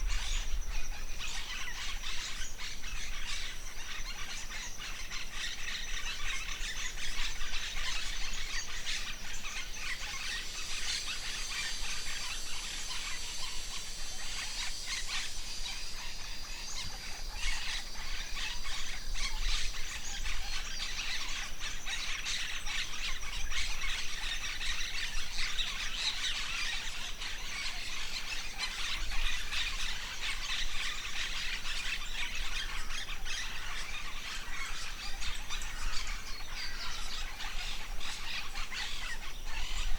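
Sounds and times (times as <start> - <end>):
high-pitched insect drone: 0.0 - 34.9
birds chirping and calling: 0.0 - 39.9.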